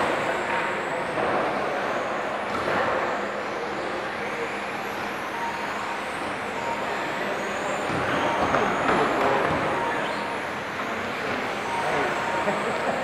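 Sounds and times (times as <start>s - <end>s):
high motor whines: 0.0s - 13.0s
radio-controlled cars racing: 0.0s - 13.0s.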